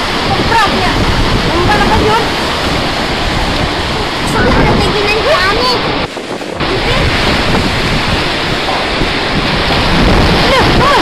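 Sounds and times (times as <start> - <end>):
heavy rain: 0.0 - 11.0
strong wind: 0.0 - 11.0
wind buffeting microphone: 0.0 - 11.0.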